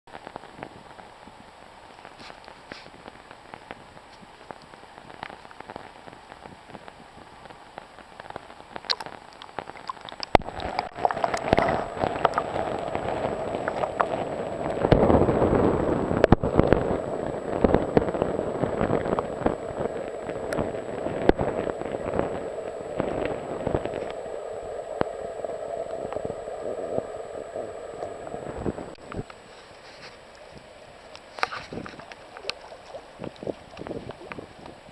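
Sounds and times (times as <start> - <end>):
underwater clicks and crackles: 0.1 - 34.9
underwater river wash: 0.1 - 34.9.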